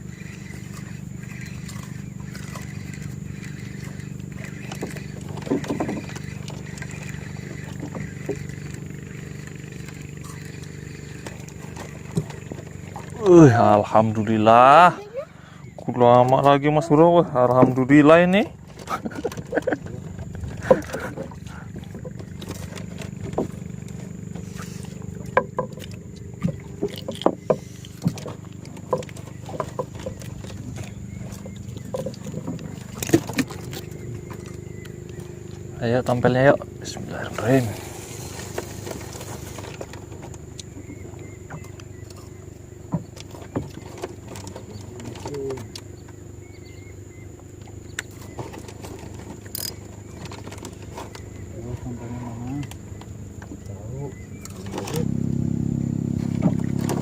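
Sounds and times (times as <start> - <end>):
motor humming: 0.0 - 57.0.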